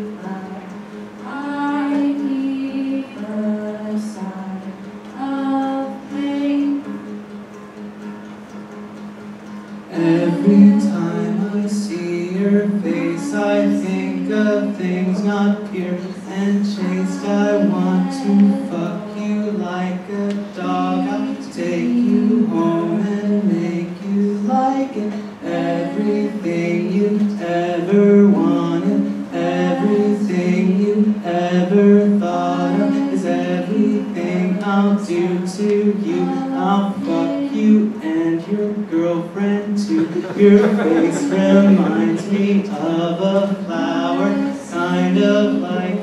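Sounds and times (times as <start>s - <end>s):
voices singing a cappella: 0.0s - 6.9s, 9.9s - 46.0s.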